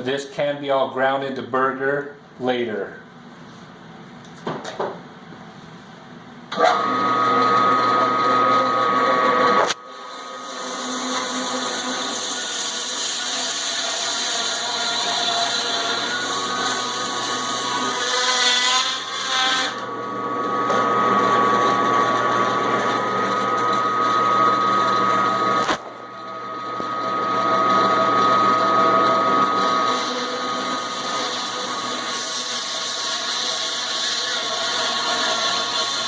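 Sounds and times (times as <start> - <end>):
band saw cutting meat: 6.5 - 36.0.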